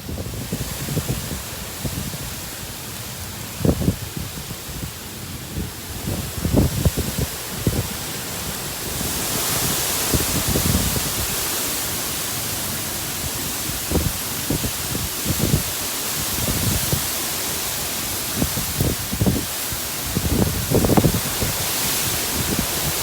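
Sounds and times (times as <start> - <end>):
heavy rain hissing: 0.0 - 23.0
wind gusts buffeting microphone: 0.0 - 23.0.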